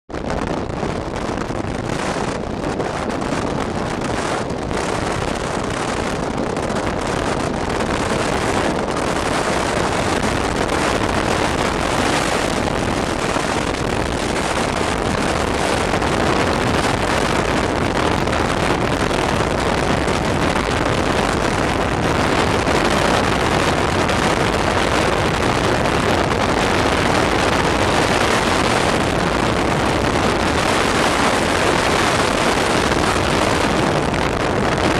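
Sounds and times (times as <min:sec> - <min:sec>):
wind rushing over microphone: 0:00.1 - 0:34.9.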